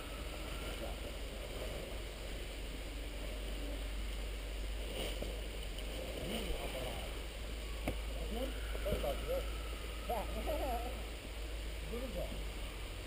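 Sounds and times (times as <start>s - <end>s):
faint outdoor background noise: 0.0s - 13.0s.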